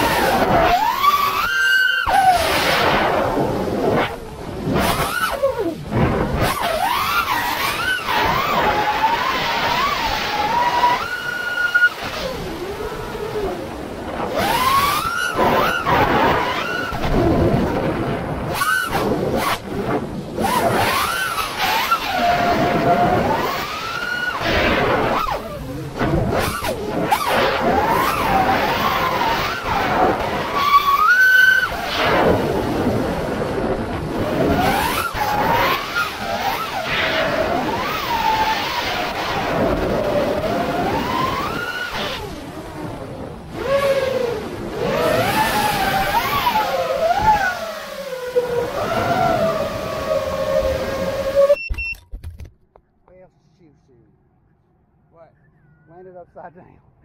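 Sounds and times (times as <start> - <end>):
wind rumble on microphone: 0.0 - 51.6
drone motors whining: 0.0 - 52.0.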